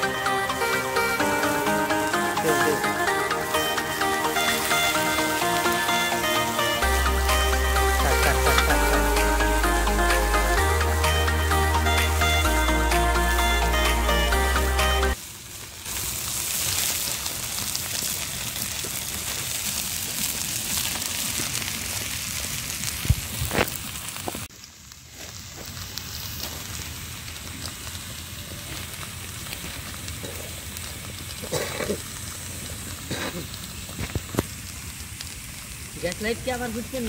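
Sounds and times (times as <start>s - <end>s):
crackling sizzle in wok: 0.0s - 37.0s.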